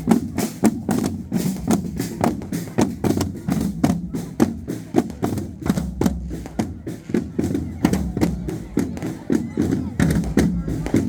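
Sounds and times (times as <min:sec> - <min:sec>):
drums beating march rhythm: 0:00.0 - 0:11.0.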